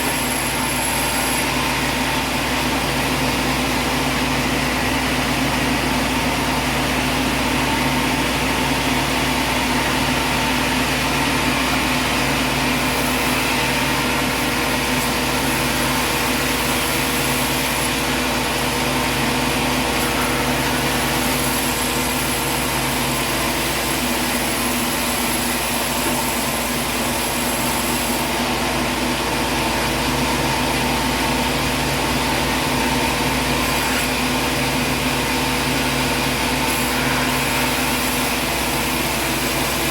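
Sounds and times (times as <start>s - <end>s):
machine humming with hiss: 0.0s - 39.9s.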